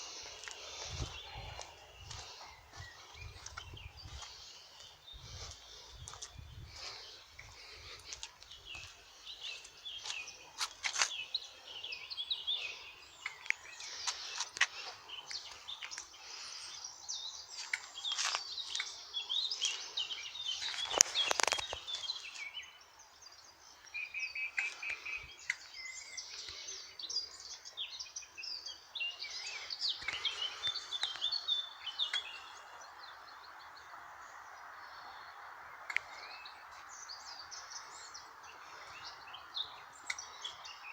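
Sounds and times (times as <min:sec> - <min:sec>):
birds singing and chirping: 0:00.0 - 0:40.9.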